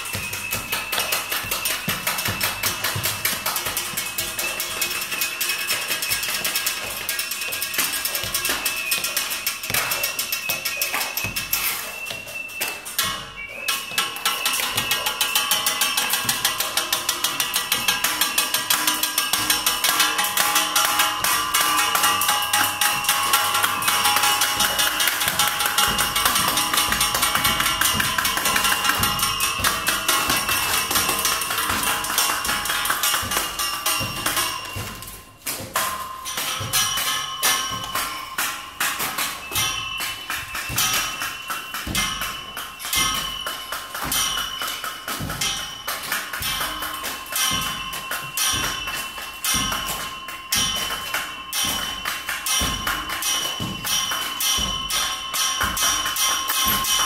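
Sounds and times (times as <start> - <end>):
metal tapped and ringing: 0.0 - 57.0.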